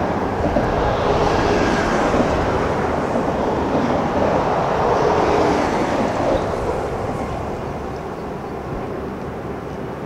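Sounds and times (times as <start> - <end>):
rushing noise of train: 0.0 - 10.0.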